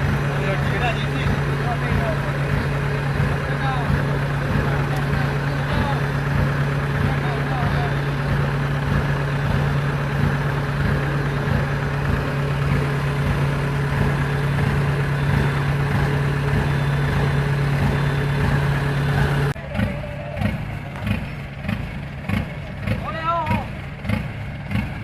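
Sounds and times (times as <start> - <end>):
harvester diesel engine droning: 0.0 - 25.0
uneven engine rumble: 0.0 - 25.0.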